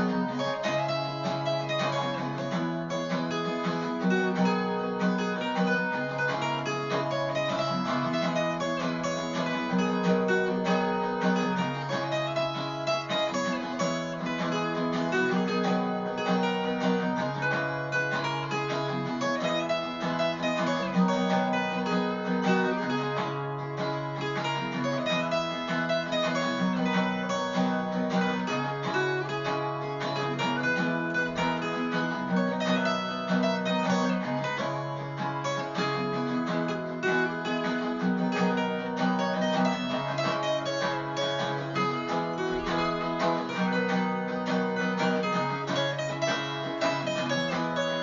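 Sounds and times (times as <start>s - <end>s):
rapidly picked acoustic guitar: 0.0s - 48.0s.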